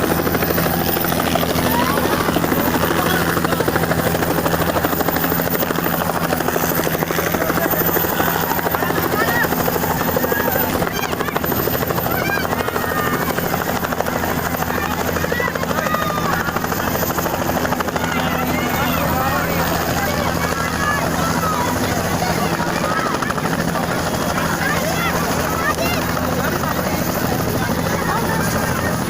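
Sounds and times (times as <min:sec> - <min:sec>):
helicopter engine hum: 0:00.0 - 0:29.0
helicopter rotor chop: 0:00.0 - 0:29.0.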